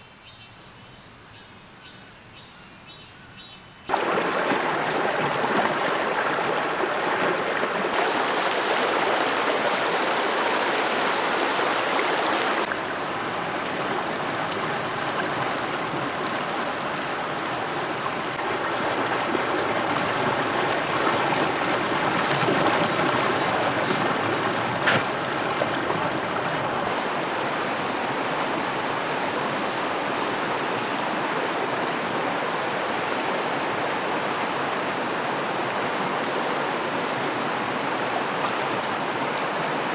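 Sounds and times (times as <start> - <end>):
creek water rushing over rocks: 3.9 - 39.9.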